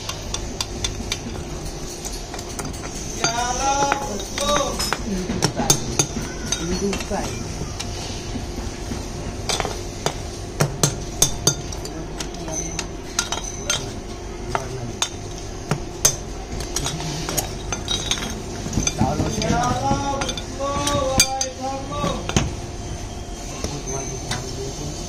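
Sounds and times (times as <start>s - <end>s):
brass lamps clinking: 0.0s - 7.9s, 9.4s - 25.0s.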